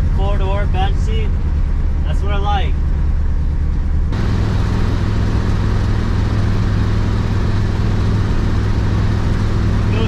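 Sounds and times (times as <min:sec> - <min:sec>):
car engine droning: 0:00.0 - 0:10.0
road noise: 0:00.0 - 0:10.0.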